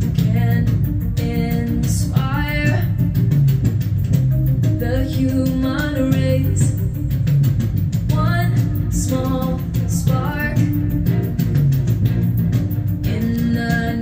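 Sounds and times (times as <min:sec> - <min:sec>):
song with guitar and beat: 0:00.0 - 0:14.0.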